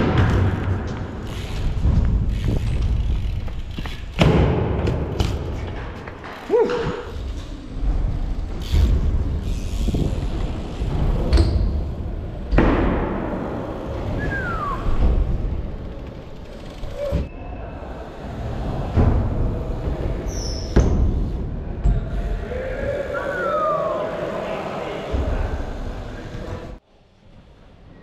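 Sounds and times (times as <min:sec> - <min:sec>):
bike tyres rolling on concrete: 0:00.0 - 0:27.8.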